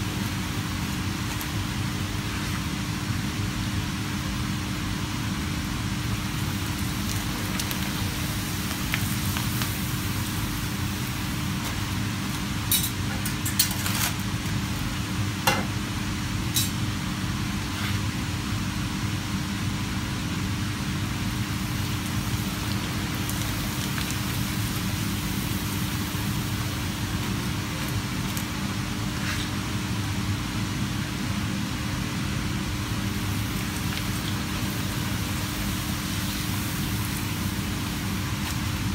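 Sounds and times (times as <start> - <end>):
hot oil sizzling and bubbling: 0.0 - 38.9
kitchen ventilation hum: 0.0 - 38.9.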